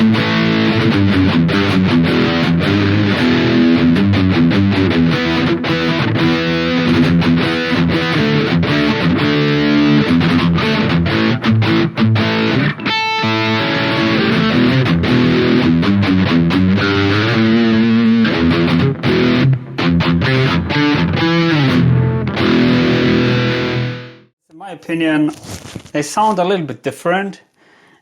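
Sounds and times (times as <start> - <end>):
distorted electric guitar riffing: 0.0 - 24.3.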